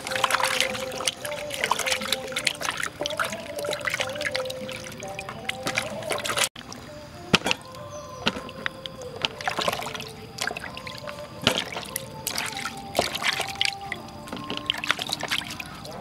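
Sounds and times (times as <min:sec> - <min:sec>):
background music with held notes: 0:00.0 - 0:16.0
hands rubbing potatoes in water: 0:00.0 - 0:16.0.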